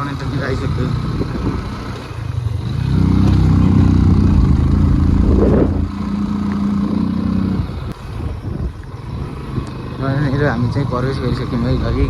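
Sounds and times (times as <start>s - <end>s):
vehicle engine under load: 0.0s - 12.0s.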